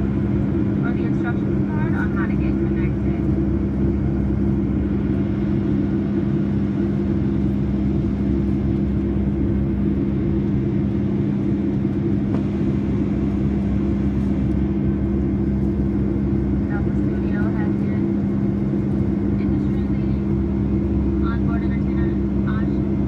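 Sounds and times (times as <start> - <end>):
airliner engine drone: 0.0 - 23.0
steady hum: 0.0 - 23.0.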